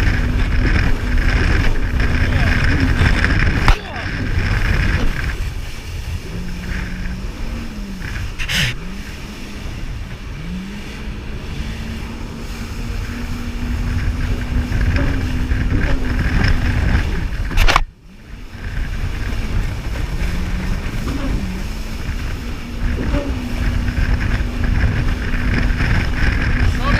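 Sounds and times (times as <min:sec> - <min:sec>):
jet ski engine revving: 0:00.0 - 0:26.9
wind and water noise: 0:00.0 - 0:26.9.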